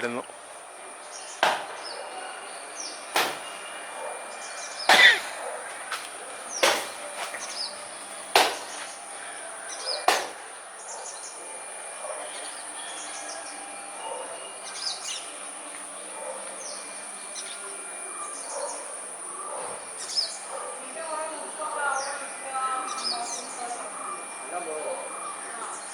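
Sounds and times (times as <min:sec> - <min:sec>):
high insect buzz: 0:00.0 - 0:25.9
small birds chirping: 0:00.0 - 0:25.9.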